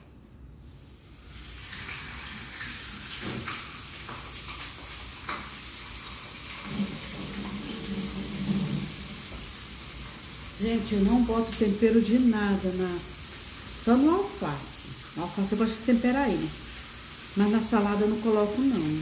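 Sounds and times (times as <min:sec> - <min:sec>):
food sizzling in a pan: 0:00.6 - 0:19.0.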